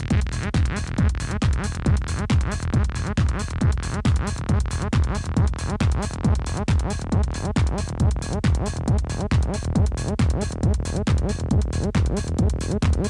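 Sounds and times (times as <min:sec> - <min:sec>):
techno music: 0:00.0 - 0:13.0.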